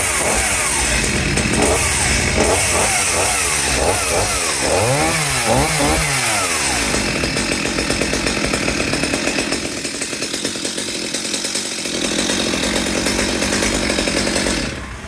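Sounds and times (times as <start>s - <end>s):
chainsaw engine idling: 0.0s - 15.0s.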